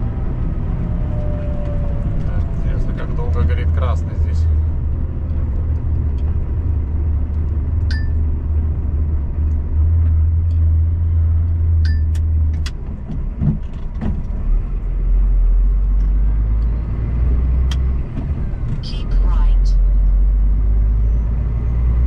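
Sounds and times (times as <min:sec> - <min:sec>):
truck engine droning: 0:00.0 - 0:22.0.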